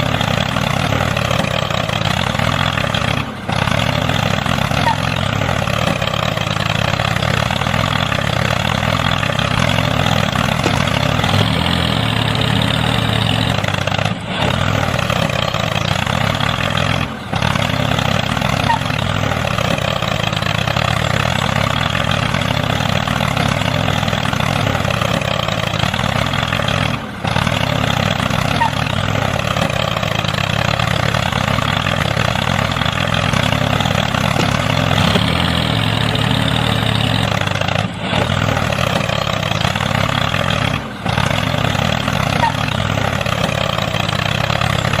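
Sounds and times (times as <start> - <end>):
engine running with wavering pitch: 0.0 - 45.0.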